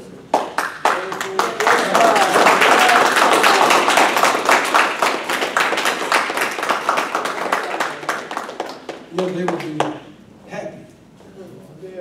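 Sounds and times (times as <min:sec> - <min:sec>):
audience applause: 0:00.3 - 0:10.0.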